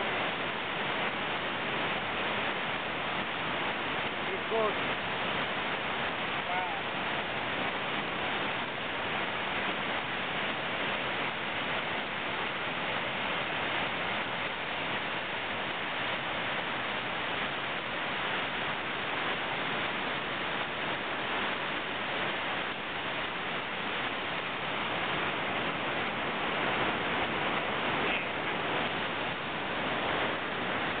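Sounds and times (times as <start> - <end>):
river rapid whitewater rushing: 0.0 - 31.0.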